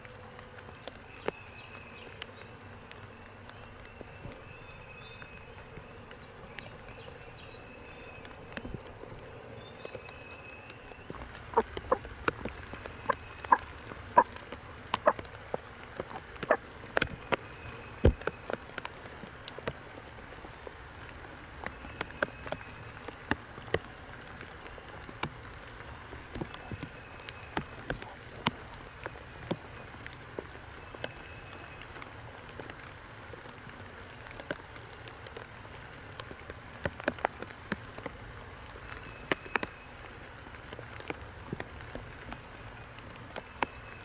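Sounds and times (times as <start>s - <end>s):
raindrops tapping: 0.0s - 44.0s.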